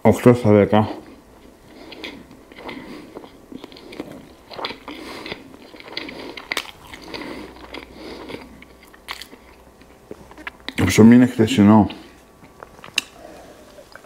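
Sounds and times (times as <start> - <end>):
chewing bread: 1.0 - 10.9, 11.8 - 14.0.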